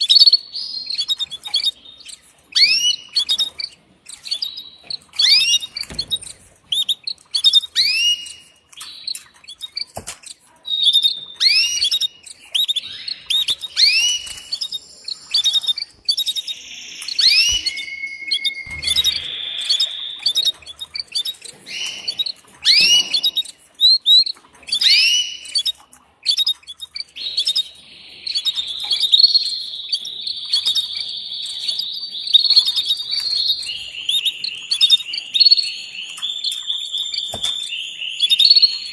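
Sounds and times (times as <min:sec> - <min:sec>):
canary chirping: 0:00.0 - 0:38.9
canary trilling: 0:00.0 - 0:38.9.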